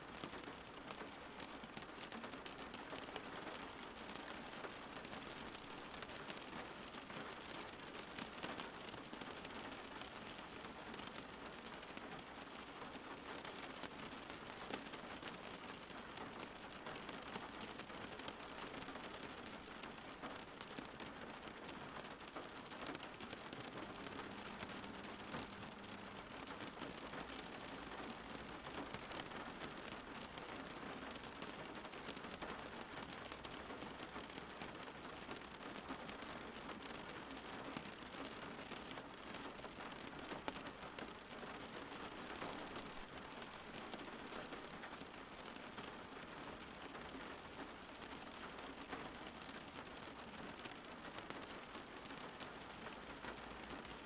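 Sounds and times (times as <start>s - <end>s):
rain drops ticking: 0.0s - 54.0s
steady rain hissing: 0.0s - 54.0s.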